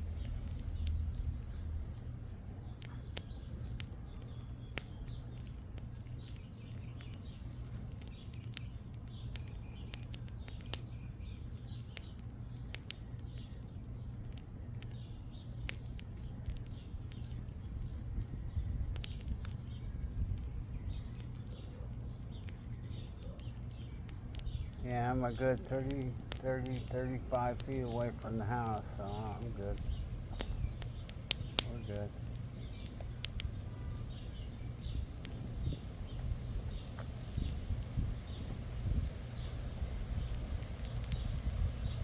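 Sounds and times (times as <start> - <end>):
birds chirping faintly: 0.0 - 42.0
campfire crackling and popping: 0.0 - 42.0.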